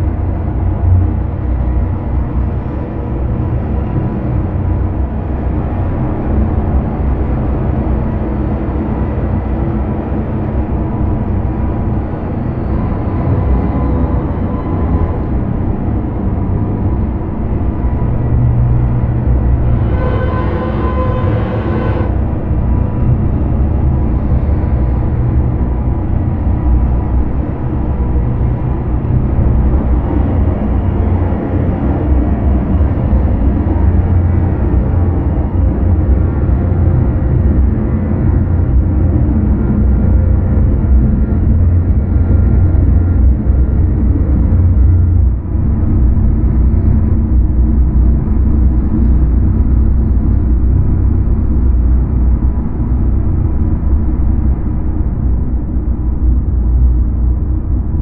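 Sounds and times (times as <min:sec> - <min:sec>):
low rumbling drone: 0:00.0 - 0:58.0.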